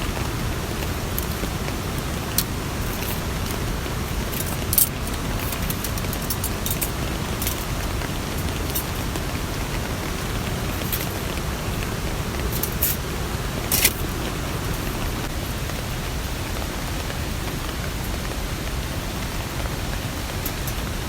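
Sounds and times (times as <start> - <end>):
rain hissing: 0.0 - 21.0
raindrop ticks: 0.0 - 21.0.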